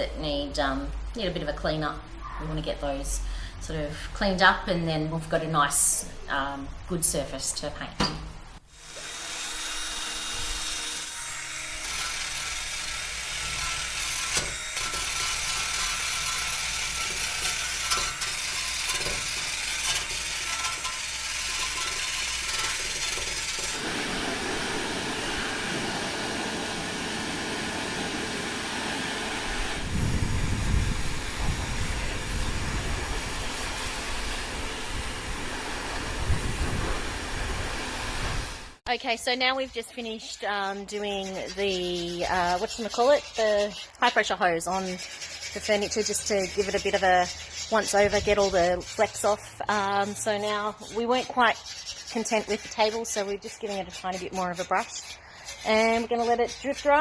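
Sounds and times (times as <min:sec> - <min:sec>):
wire brush scrubbing metal: 0:08.7 - 0:38.8, 0:40.2 - 0:57.0.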